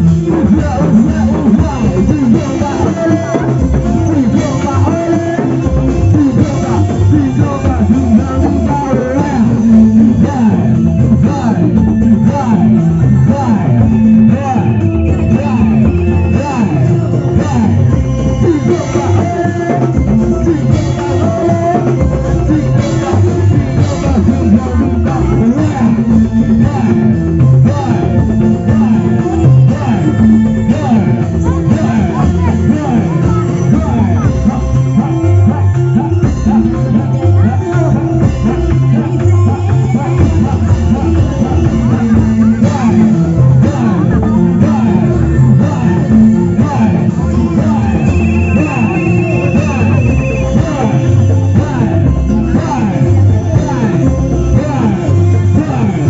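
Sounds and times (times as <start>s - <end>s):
folk band music: 0.0s - 56.0s
steady drum beat: 0.0s - 56.0s
wavering melody line: 0.0s - 56.0s.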